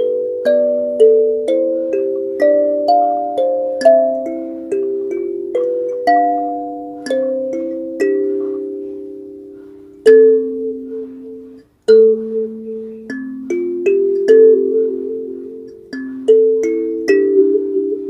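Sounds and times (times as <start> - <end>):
kalimba playing slow tune: 0.0 - 18.0.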